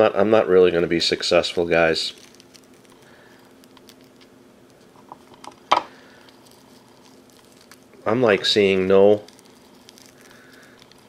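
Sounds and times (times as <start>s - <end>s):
low steady hum: 0.0s - 11.0s
fried food crumbling: 1.5s - 11.0s.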